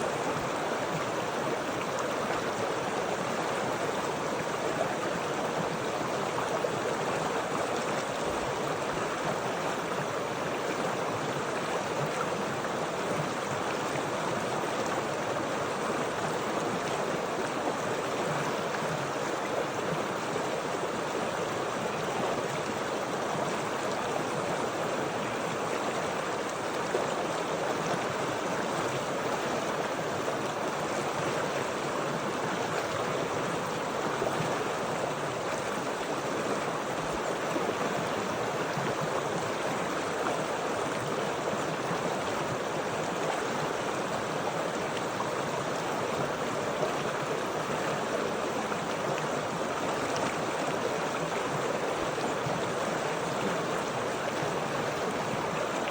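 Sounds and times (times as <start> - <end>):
running water flowing: 0.0 - 55.9.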